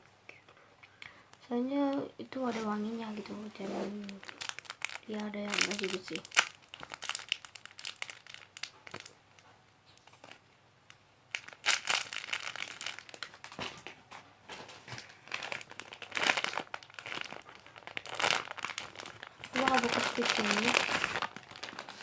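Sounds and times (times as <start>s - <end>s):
plastic wrapper crinkling: 2.4s - 22.0s.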